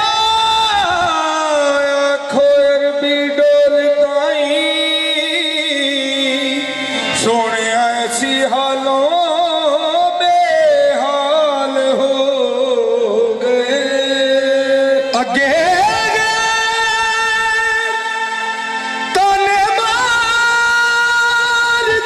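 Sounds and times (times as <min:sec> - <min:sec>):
harmoniums holding notes: 0:00.0 - 0:22.0
man singing: 0:00.0 - 0:22.0.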